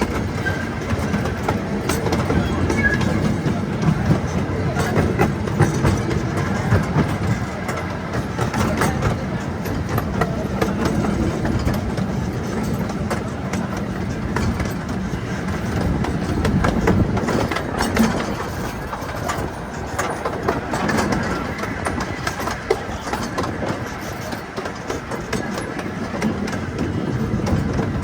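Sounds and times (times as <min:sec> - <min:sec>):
train rumble: 0:00.0 - 0:28.0
wheels clicking and clattering: 0:00.0 - 0:28.0.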